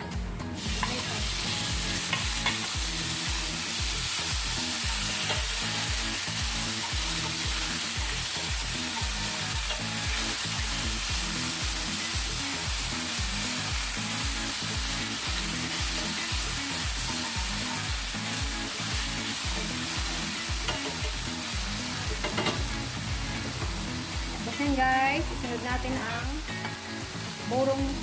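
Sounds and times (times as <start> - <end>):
tomatoes sizzling in hot oil: 0.5 - 28.0.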